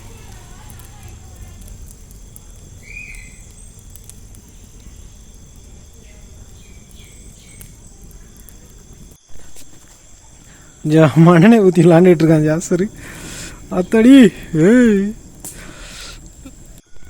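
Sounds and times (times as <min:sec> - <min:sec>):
insects trilling: 0:00.0 - 0:17.0
low rumble: 0:00.0 - 0:17.0.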